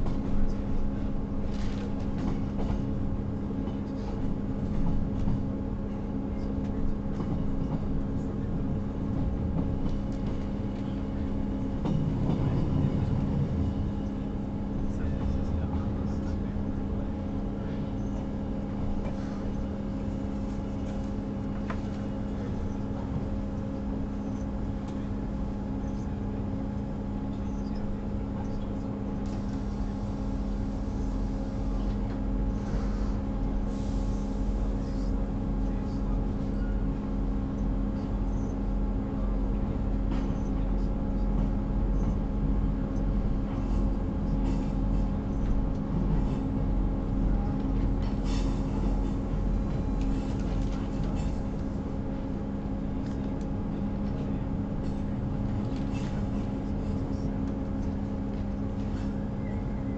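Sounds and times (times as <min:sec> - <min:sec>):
train engine drone: 0:00.0 - 0:59.9.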